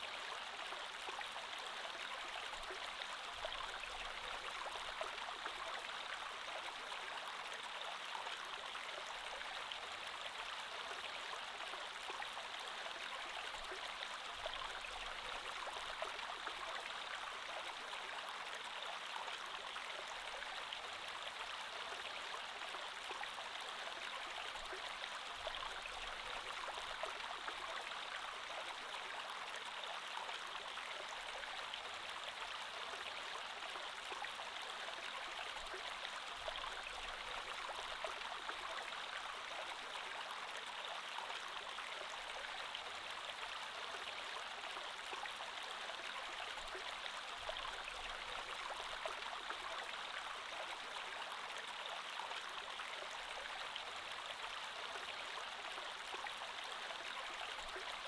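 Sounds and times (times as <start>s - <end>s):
creek water flowing over rocks: 0.0s - 58.0s.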